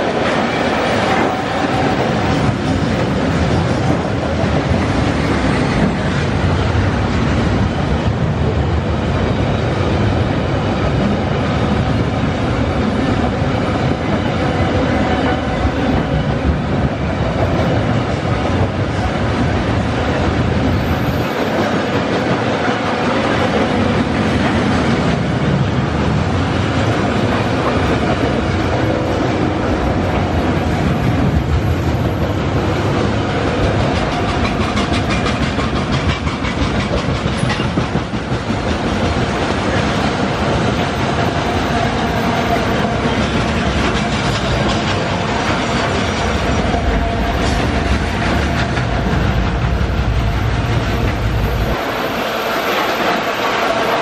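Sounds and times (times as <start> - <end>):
rail clicks: 0.0 - 8.5, 9.1 - 54.0
freight train wheels rolling on rails: 0.0 - 54.0.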